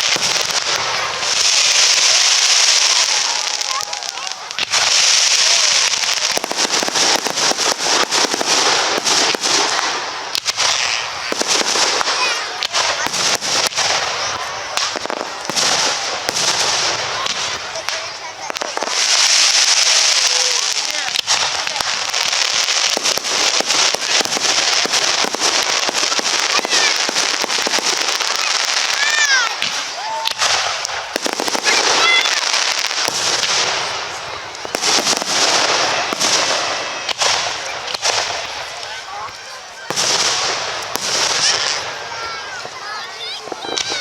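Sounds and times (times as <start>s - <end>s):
fireworks crackling and popping: 0.0s - 44.0s.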